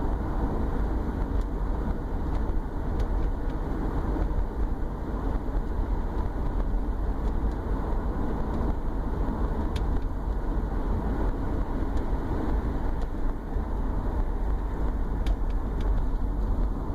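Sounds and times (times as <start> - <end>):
car engine and road noise: 0.0 - 16.9
low drone while driving: 0.0 - 16.9.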